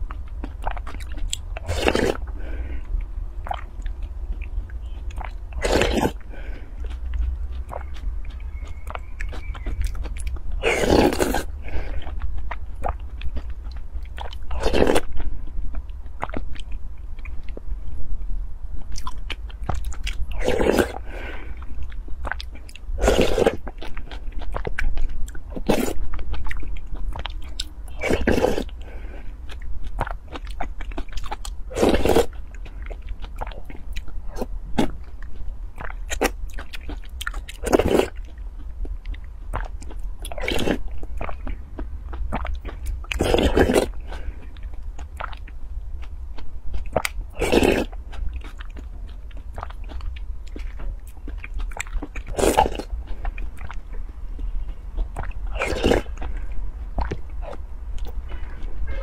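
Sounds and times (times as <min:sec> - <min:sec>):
soft chewing: 0:00.0 - 0:59.0
steady low hum: 0:00.0 - 0:59.0.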